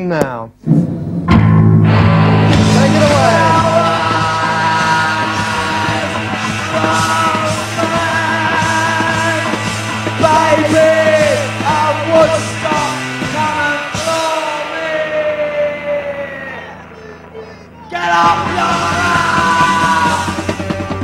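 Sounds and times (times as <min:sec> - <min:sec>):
punk rock band playing live: 0:00.8 - 0:16.9, 0:17.9 - 0:21.0
person yelling vocals: 0:02.7 - 0:09.6, 0:10.2 - 0:21.0.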